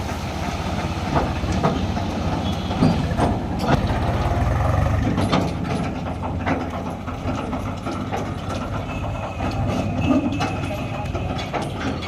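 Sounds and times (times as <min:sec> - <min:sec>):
diesel machinery engine rumbling: 0:00.0 - 0:12.0
metallic clanks and clicks: 0:01.1 - 0:12.0.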